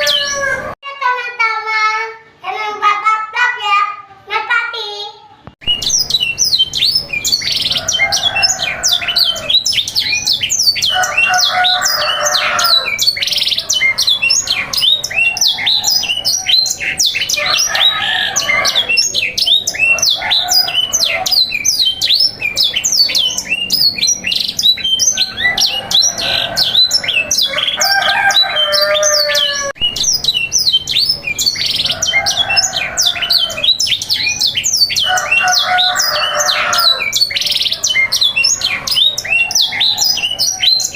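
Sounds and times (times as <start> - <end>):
canaries chirping and trilling: 0.0 - 0.8, 5.6 - 40.9
lower bird warbling: 0.0 - 0.8, 5.6 - 40.9.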